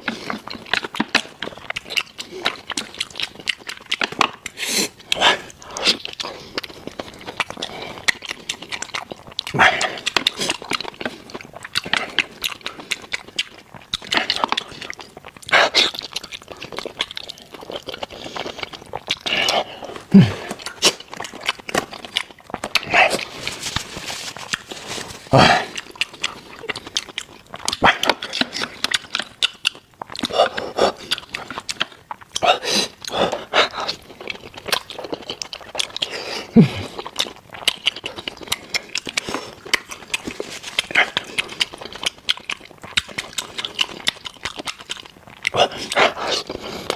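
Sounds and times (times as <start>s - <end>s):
chewing and biting meat: 0.0s - 46.9s.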